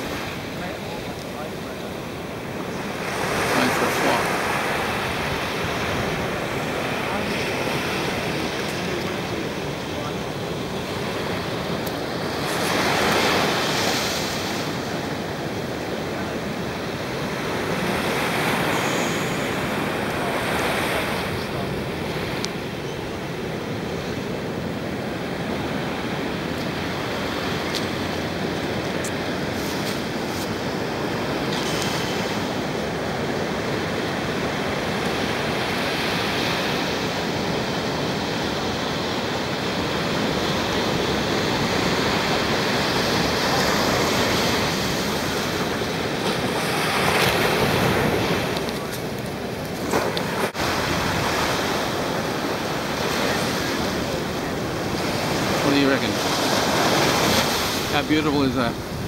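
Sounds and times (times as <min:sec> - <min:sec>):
small waves breaking on sand: 0:00.0 - 0:59.0.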